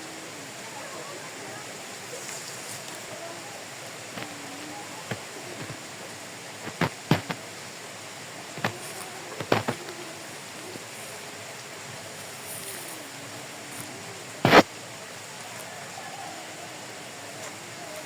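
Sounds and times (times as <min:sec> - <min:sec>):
faint wavering voice-like tones: 0:00.0 - 0:07.6, 0:08.5 - 0:18.0
steady hiss: 0:00.0 - 0:18.0.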